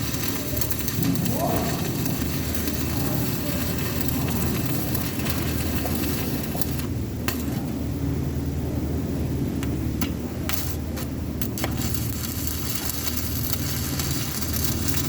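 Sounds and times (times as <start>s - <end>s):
electric arc welding crackling: 0.0s - 7.9s, 9.5s - 15.0s
steady low hum: 0.0s - 15.0s.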